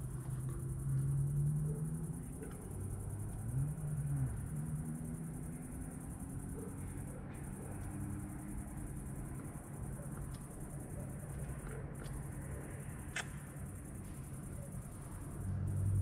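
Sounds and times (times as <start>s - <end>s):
distant vehicle engine hum: 0.0s - 16.0s.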